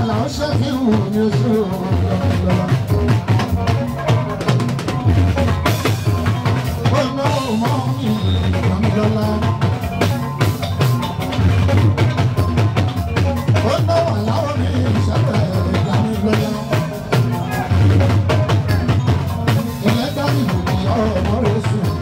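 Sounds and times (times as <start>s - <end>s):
band music with dance beat: 0.0s - 22.0s.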